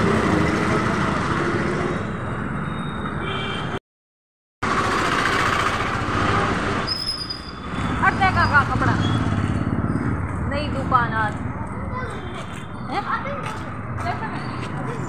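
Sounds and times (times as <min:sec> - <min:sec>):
street traffic din: 0:00.0 - 0:03.8, 0:04.6 - 0:15.0.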